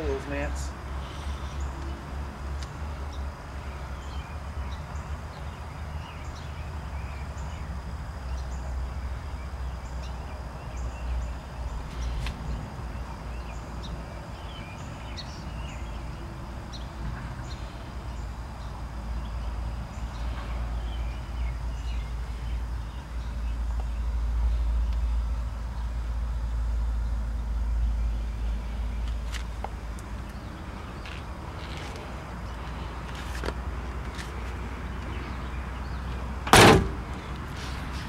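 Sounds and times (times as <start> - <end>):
small birds chirping: 0.0 - 2.0, 2.7 - 26.0, 26.9 - 36.4
steady low rumble: 0.0 - 38.0.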